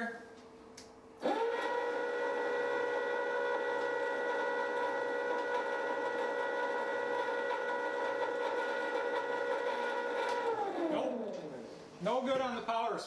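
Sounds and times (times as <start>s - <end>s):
grain mill motor whining: 1.2s - 11.7s.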